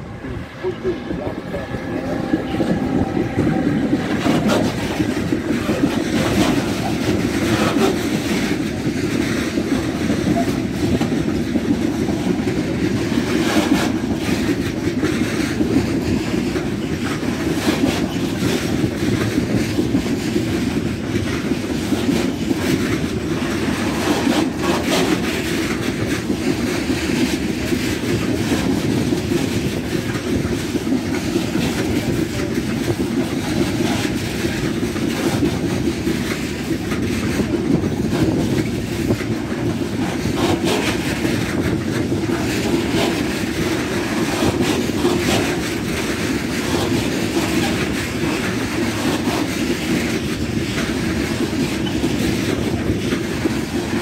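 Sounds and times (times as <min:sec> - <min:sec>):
freight train rumbling past: 0:00.0 - 0:54.0
train wheels clacking over rail joints: 0:00.0 - 0:54.0.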